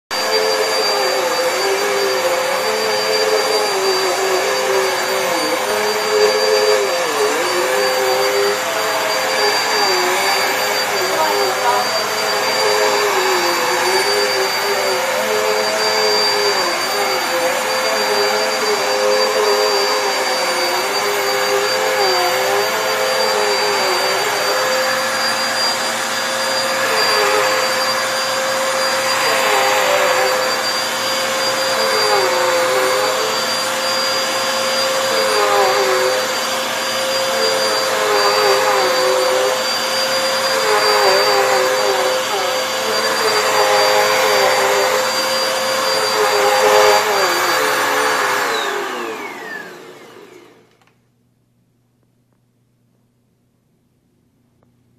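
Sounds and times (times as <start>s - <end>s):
vacuum cleaner running: 0.1s - 51.0s.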